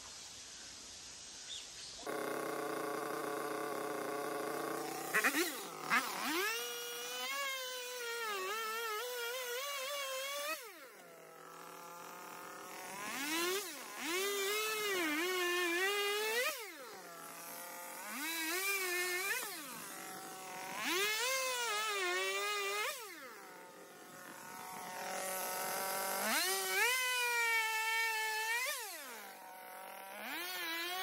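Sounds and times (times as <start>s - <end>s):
power tool motor revving: 2.0s - 31.0s.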